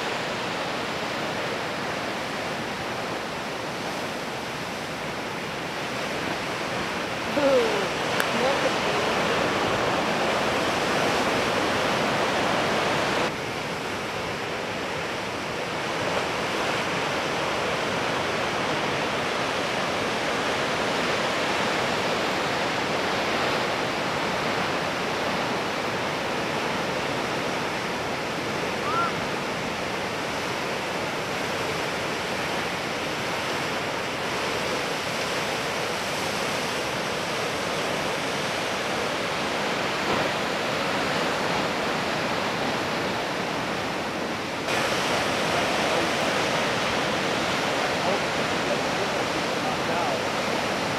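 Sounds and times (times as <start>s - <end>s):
ocean surf breaking: 0.0s - 50.9s.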